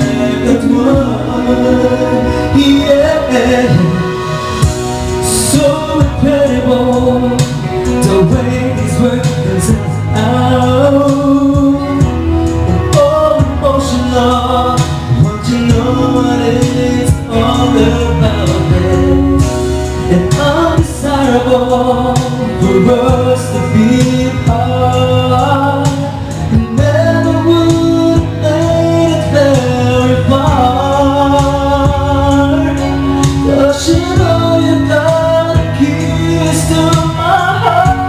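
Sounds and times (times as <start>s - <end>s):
backing music: 0.0s - 38.0s
man singing: 0.0s - 38.0s.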